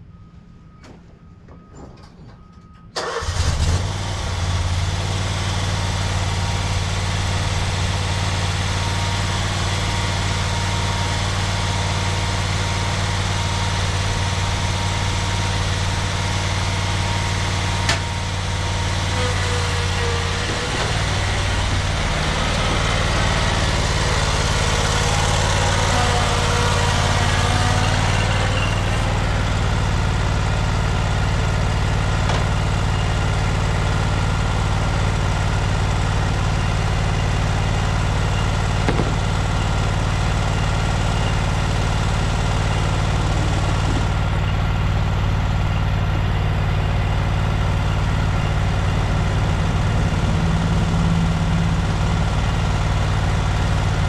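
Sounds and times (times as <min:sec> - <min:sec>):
mower engine starting and running: 0:03.0 - 0:54.0.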